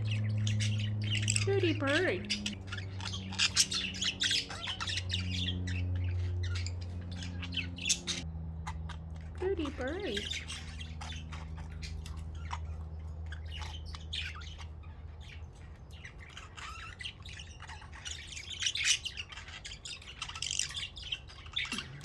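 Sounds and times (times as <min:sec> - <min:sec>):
budgerigars chirping and squawking: 0:00.0 - 0:22.0
steady low hum: 0:00.0 - 0:22.0.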